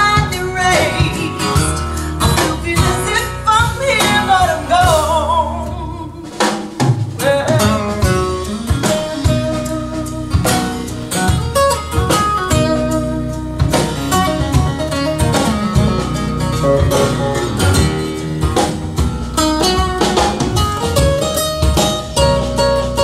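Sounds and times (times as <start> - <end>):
instrumental music with steady beat: 0.0 - 23.0.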